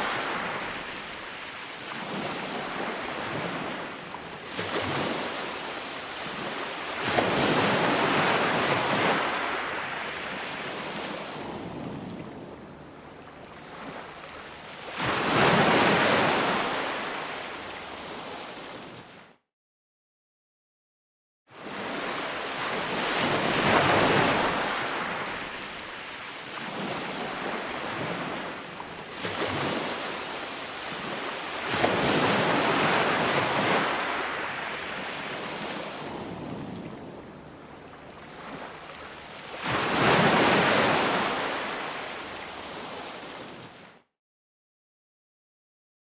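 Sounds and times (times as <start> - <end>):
ocean waves breaking: 0.0 - 19.2, 21.6 - 43.9.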